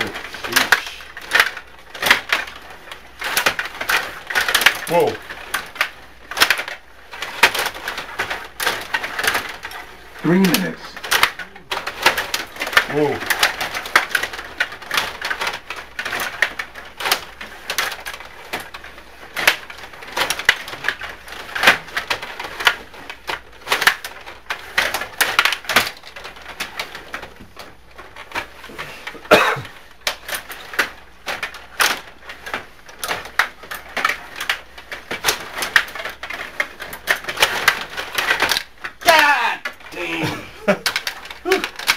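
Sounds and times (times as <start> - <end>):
plastic clacks of table hockey: 0.0 - 41.9.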